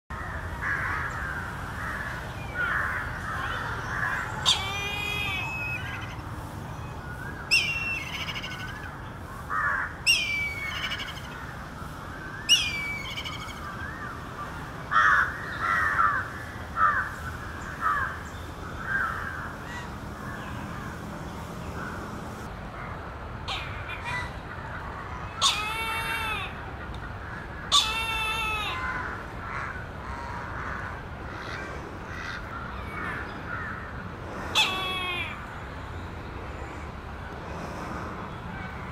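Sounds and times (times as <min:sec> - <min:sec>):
loud bird calls: 0:00.1 - 0:22.2, 0:22.8 - 0:38.9.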